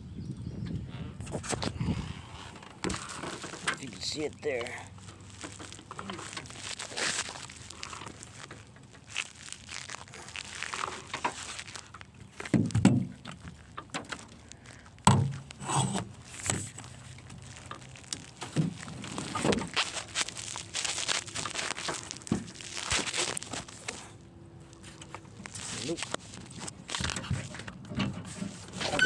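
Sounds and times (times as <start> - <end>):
gear being handled: 2.9 - 29.0.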